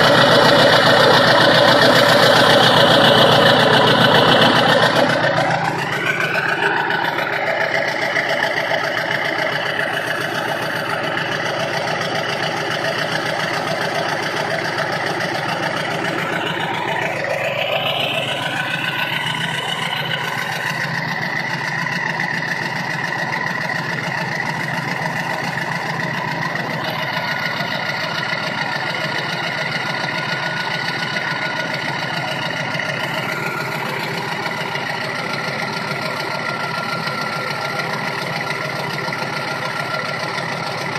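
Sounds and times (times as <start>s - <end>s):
rising whine: 0.0s - 35.8s
diesel engine idling: 0.0s - 40.9s.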